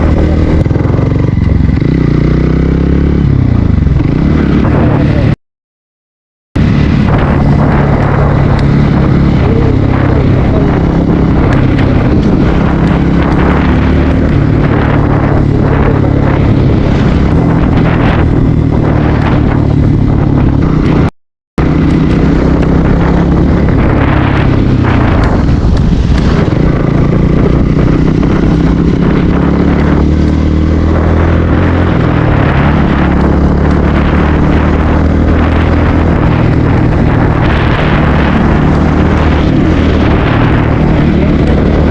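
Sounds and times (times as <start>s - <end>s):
motorcycle engine running: 0.0s - 5.4s, 6.6s - 41.9s
wind noise on microphone: 0.0s - 5.4s, 6.6s - 41.9s.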